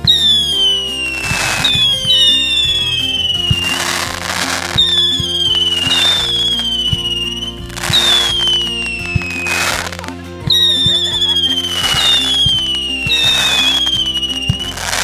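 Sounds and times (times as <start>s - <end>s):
firework bangs and crackle: 0.0s - 15.0s
whistling firework shells: 0.0s - 15.0s.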